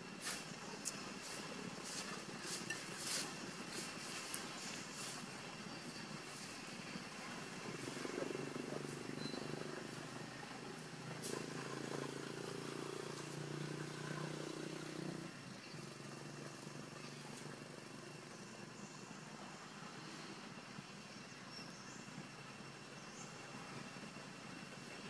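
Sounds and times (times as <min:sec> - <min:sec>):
motor engine droning: 0:00.0 - 0:25.0.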